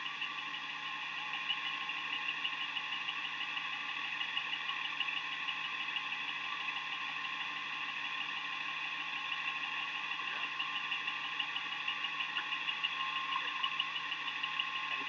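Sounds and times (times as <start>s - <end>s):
idling car engine hum: 0.0s - 15.0s.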